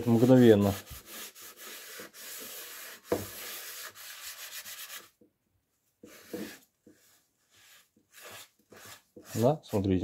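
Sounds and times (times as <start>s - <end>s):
sponge scrubbing a frying pan: 0.0s - 5.2s, 6.0s - 10.0s.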